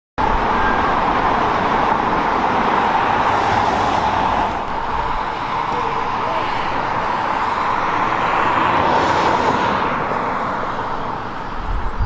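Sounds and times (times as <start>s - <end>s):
road traffic: 0.2s - 12.0s.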